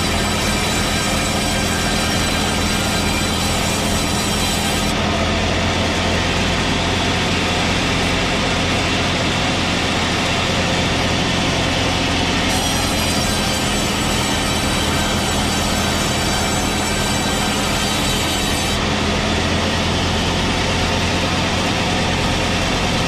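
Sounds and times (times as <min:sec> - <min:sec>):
sawmill machine humming: 0:00.0 - 0:23.0.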